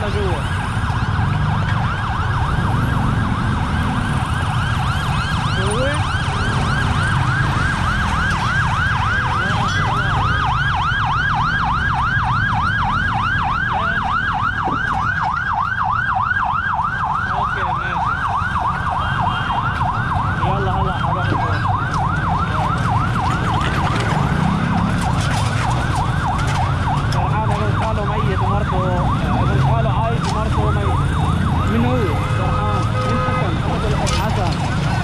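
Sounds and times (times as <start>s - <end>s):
low rumble of road traffic: 0.0s - 35.0s
siren in fast yelp: 0.0s - 35.0s
wind: 0.0s - 35.0s.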